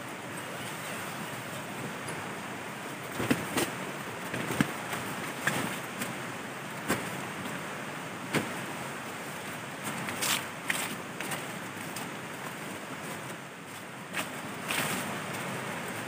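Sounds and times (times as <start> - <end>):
river rushing: 0.0 - 16.0
camping gear rustling and knocking: 1.6 - 15.6.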